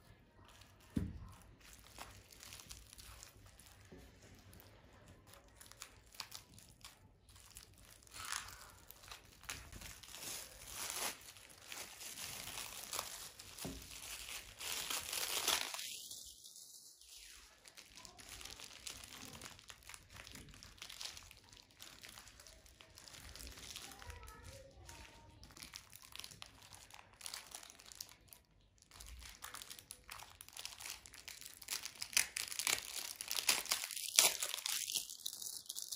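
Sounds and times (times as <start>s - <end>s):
plastic bag and bubble wrap crinkling: 0.0s - 35.9s.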